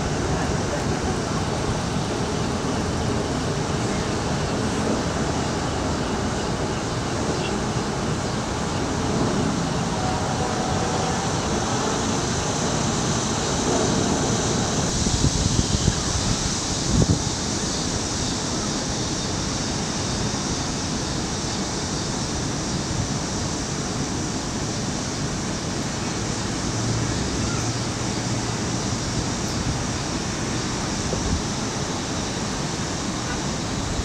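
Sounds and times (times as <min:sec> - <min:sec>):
strong wind buffeting microphone: 0:00.0 - 0:34.0.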